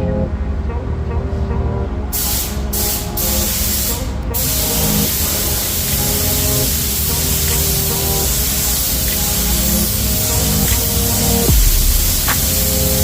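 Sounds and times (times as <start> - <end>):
background music: 0.0 - 13.0
spray hissing: 2.2 - 13.0.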